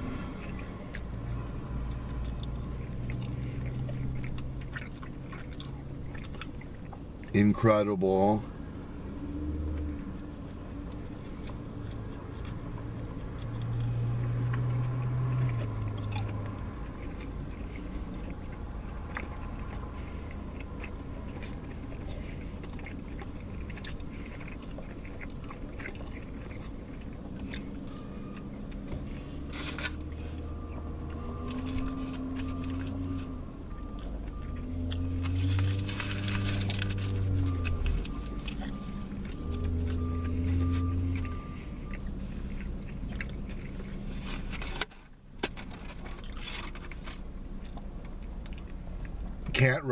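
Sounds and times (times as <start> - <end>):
person chewing food: 0.0 - 7.4, 8.4 - 49.5
low steady hum: 0.0 - 49.9.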